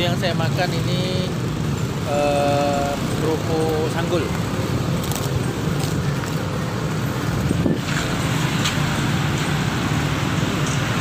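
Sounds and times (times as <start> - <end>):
passing cars: 0.0 - 11.0
passing motorbikes: 0.0 - 11.0.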